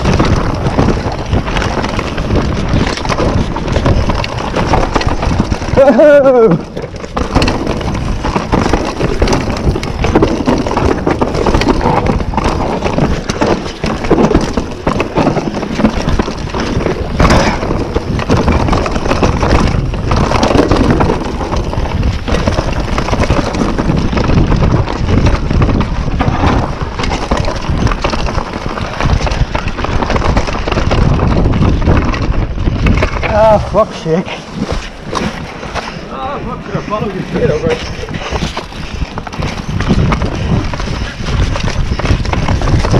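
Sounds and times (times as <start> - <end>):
bike rattling and knocking: 0.0 - 42.9
bike tyres over dirt and roots: 0.0 - 42.9.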